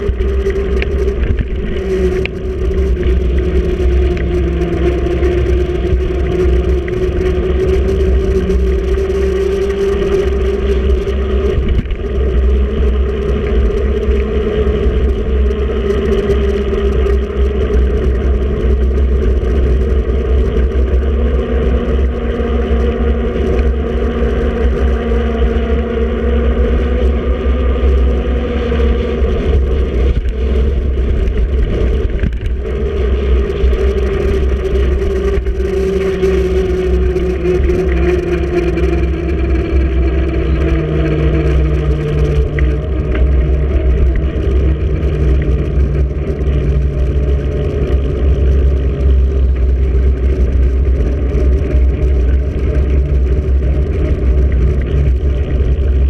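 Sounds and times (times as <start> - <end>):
tyres humming on road: 0.0 - 56.0
wind buffeting camera: 0.0 - 56.0.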